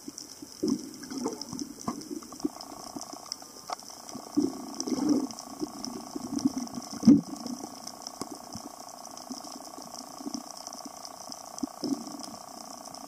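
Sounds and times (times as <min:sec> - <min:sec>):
crackling clicks: 0:00.0 - 0:13.0
muffled water swishes: 0:00.0 - 0:13.0
underwater hum: 0:00.0 - 0:13.0.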